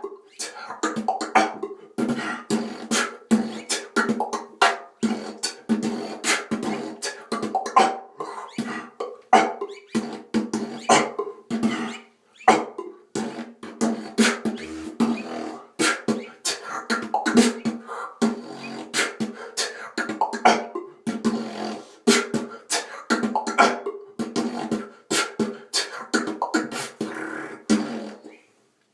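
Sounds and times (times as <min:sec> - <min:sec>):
beatboxing: 0:00.0 - 0:28.6.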